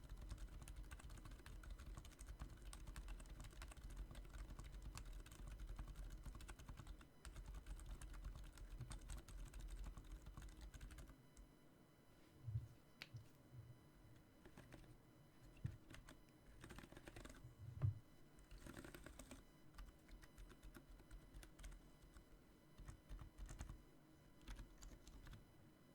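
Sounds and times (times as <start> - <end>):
quiet keyboard typing: 0.0 - 11.5, 14.4 - 17.4, 18.4 - 23.8, 24.4 - 25.5.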